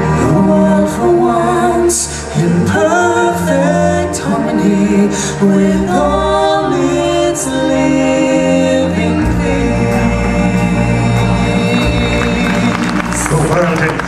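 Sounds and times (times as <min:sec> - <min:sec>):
group of voices singing: 0:00.0 - 0:13.4
musical accompaniment: 0:00.0 - 0:14.0.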